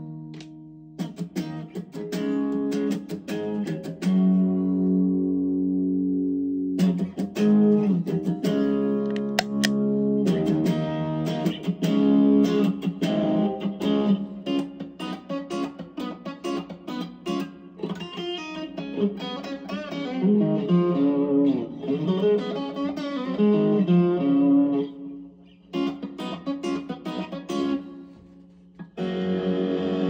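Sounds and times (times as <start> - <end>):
overdriven electric guitar: 0.0 - 30.0.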